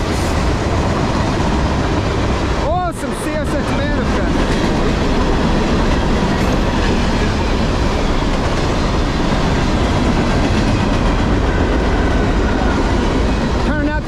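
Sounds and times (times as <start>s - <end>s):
freight train wheels rolling on rails: 0.0s - 14.0s.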